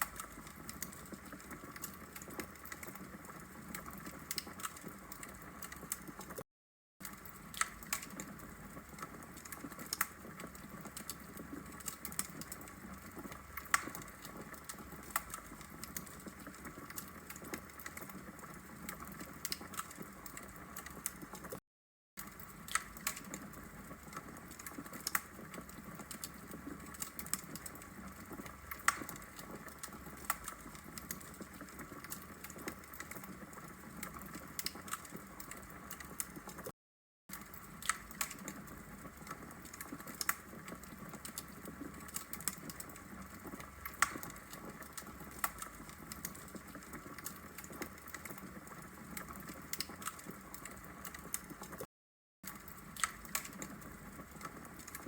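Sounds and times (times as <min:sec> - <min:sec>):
wood fire crackling: 0:00.0 - 0:06.4, 0:07.0 - 0:21.6, 0:22.2 - 0:36.7, 0:37.3 - 0:51.9, 0:52.5 - 0:55.0.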